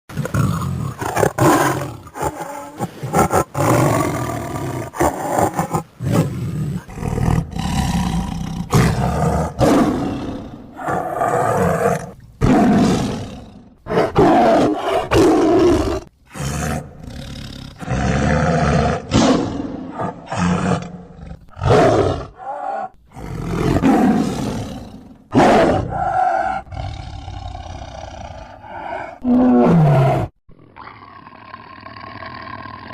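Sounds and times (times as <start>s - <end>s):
tiger roaring: 0.1s - 32.9s.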